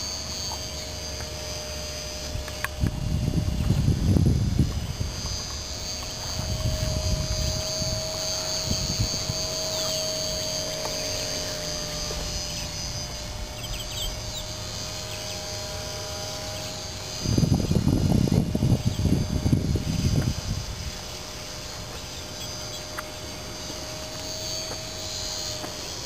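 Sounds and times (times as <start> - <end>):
model plane motor whine: 0.0 - 26.0
wind rumble on microphone: 0.8 - 25.8.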